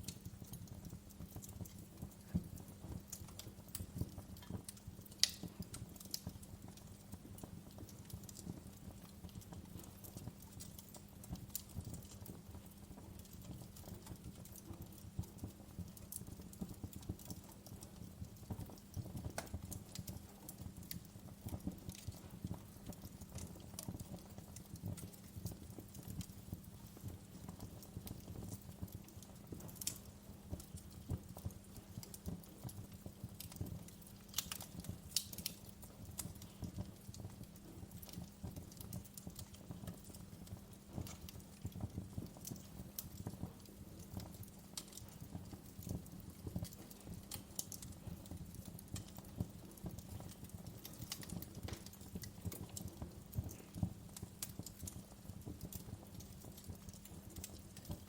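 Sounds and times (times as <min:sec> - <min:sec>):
sharp pops of burning wood: 0:00.0 - 0:07.0, 0:15.9 - 0:58.0
logs crackling in fireplace: 0:00.0 - 0:58.0.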